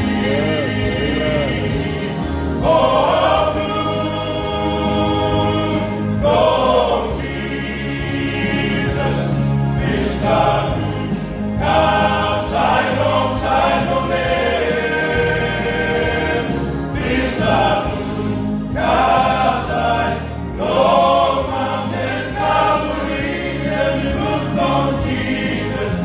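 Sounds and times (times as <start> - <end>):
low accompaniment notes: 0.0 - 26.0
men's choir singing a hymn: 0.0 - 26.0.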